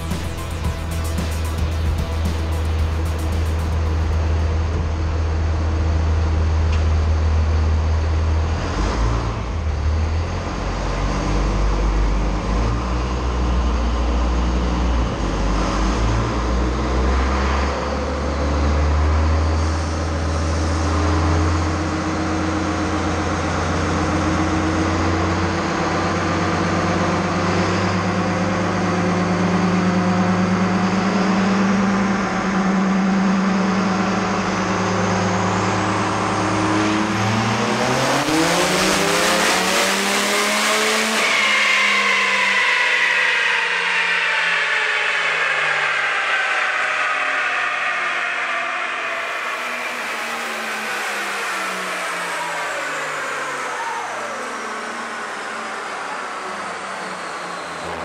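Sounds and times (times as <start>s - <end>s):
diesel engine running hard: 0.0s - 58.0s
wheels spinning dyno rollers: 7.6s - 58.0s.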